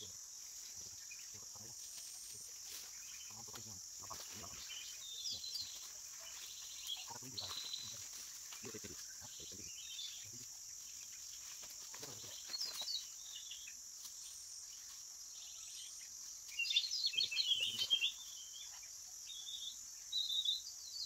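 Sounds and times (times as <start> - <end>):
bird chirping: 0.0 - 21.0
insects chorus: 0.0 - 21.0.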